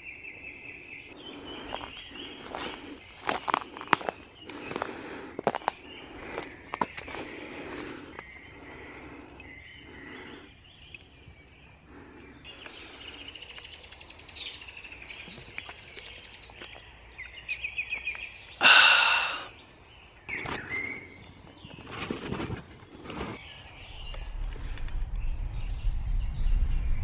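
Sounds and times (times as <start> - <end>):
small birds singing trills: 0.0 - 27.0.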